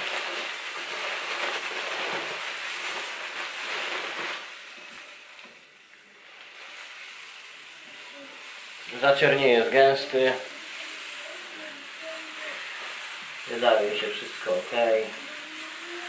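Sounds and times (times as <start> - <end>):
grain pouring into water: 0.0 - 5.4, 6.2 - 16.0.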